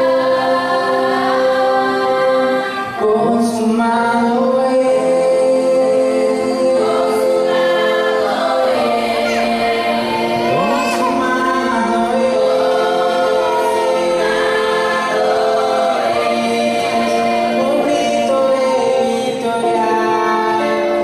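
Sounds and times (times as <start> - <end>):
women's choir singing: 0.0 - 21.0.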